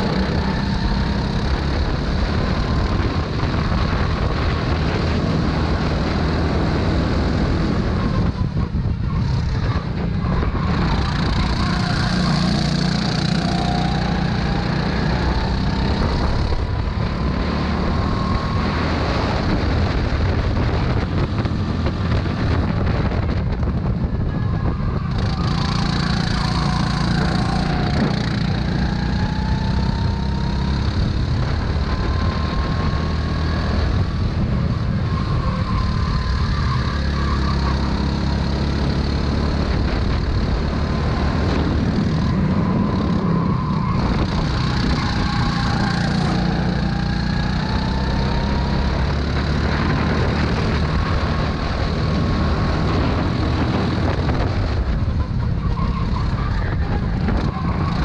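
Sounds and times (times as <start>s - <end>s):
go-kart engine running: 0.0s - 58.0s
wind and road noise: 0.0s - 58.0s.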